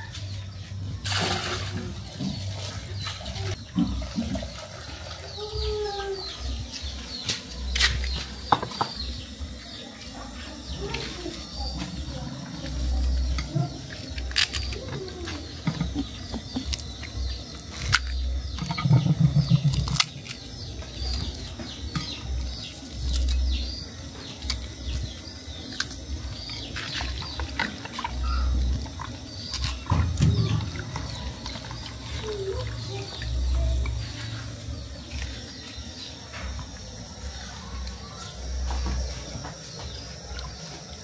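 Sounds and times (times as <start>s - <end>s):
small birds chirping: 5.2s - 41.0s.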